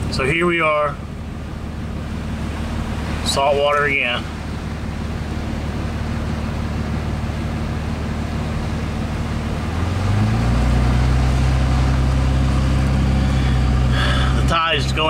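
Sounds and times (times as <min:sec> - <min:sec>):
truck engine running: 0:00.0 - 0:15.0
tyres splashing through water: 0:00.0 - 0:15.0.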